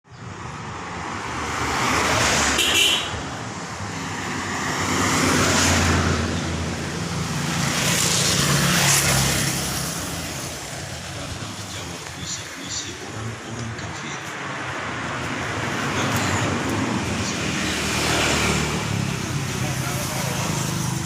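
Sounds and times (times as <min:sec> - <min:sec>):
vehicles passing: 0:00.1 - 0:21.0.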